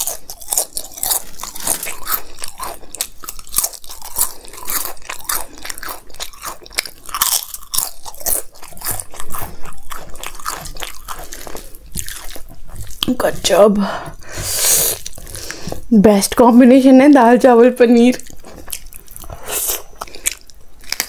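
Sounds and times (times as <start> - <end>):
dry crunches of chewing: 0.0 - 15.9, 18.2 - 21.0.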